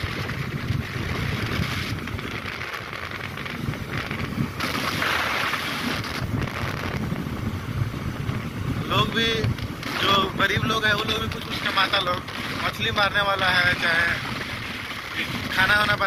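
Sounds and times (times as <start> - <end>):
moving vehicle rumble: 0.0 - 16.0
wind buffeting microphone: 0.0 - 16.0.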